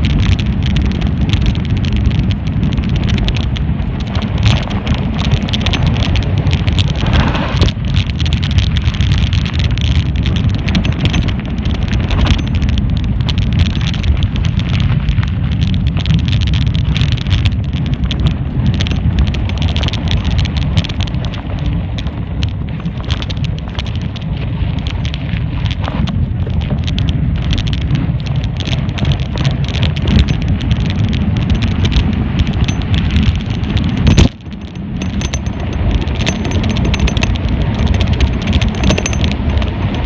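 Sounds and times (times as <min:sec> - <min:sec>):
bike frame rattling and clicking: 0:00.0 - 0:40.0
wind on microphone: 0:00.0 - 0:40.0.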